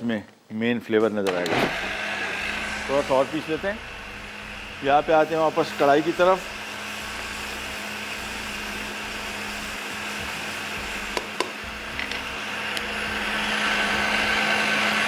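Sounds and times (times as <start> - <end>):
electric blender running: 1.3 - 15.0.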